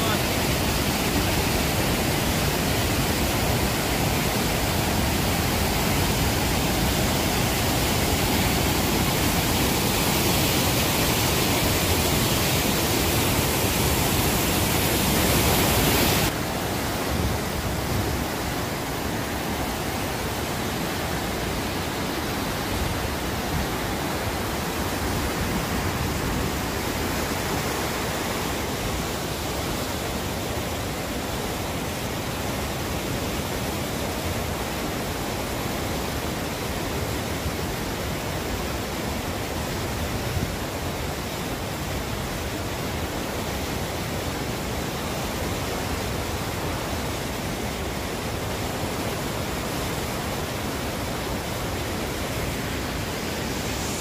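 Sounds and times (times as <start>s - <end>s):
river rushing: 0.0s - 54.0s
waterfall rushing: 0.0s - 54.0s.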